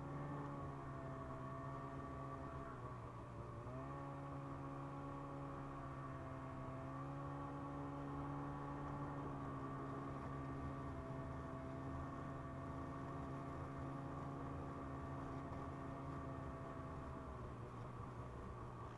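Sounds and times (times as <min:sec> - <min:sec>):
snowmobile engine cruising: 0:00.0 - 0:18.9.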